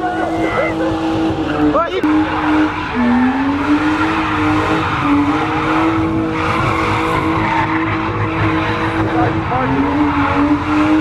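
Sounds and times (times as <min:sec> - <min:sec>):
car engine at high revs: 0:00.0 - 0:11.0
tyres screeching: 0:00.0 - 0:11.0.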